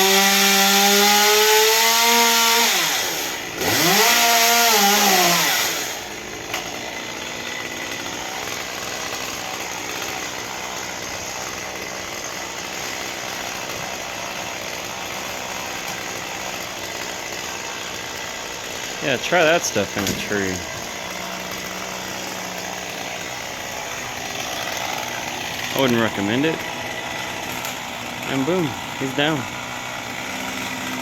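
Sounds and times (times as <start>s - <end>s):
chainsaw revving and idling: 0.0s - 31.0s.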